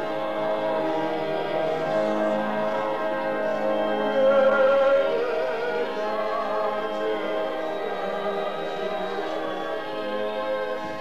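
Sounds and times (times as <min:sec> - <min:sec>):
person singing: 0:01.4 - 0:11.0.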